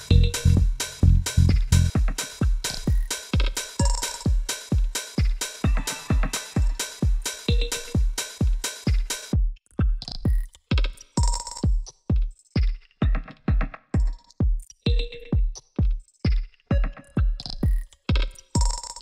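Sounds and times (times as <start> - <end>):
drum machine kick: 0.0 - 19.0.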